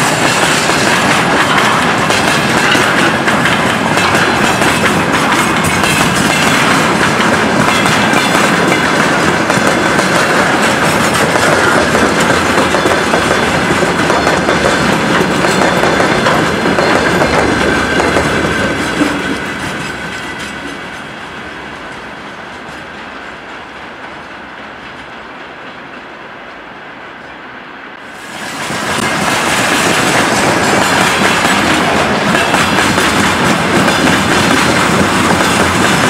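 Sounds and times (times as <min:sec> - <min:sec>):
train wheels clattering over rails: 0:00.0 - 0:26.1, 0:28.1 - 0:36.0.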